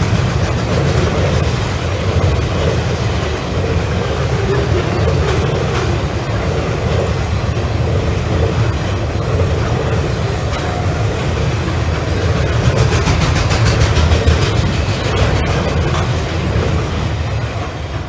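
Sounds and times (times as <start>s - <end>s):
freight train wagons rumbling: 0.0s - 18.0s
wheels clicking over rails: 0.0s - 18.0s.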